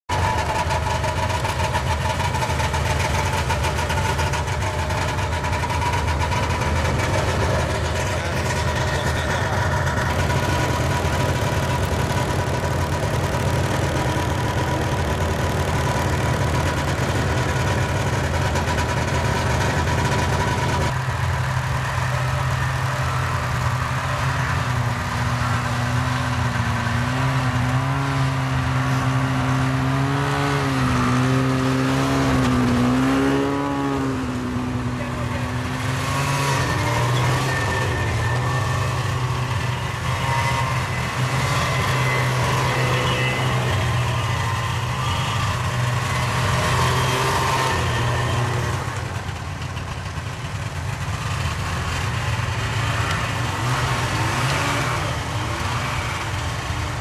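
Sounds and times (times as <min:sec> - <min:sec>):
snowmobile engine running: 0:00.1 - 0:57.0.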